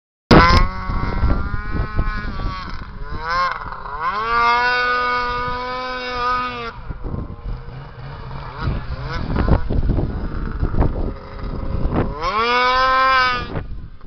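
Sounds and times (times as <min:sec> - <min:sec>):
snowmobile engine running hard: 0:00.4 - 0:13.7.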